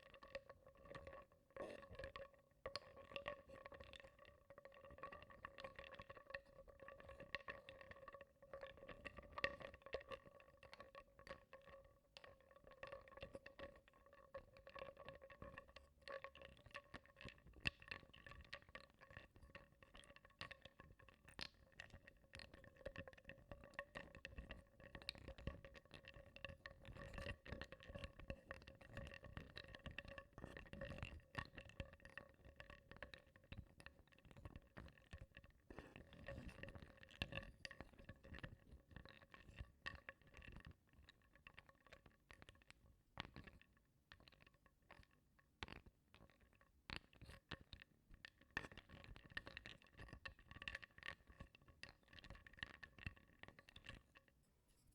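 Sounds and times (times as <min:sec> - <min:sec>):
wooden blocks clicking in water: 0:00.0 - 0:54.4.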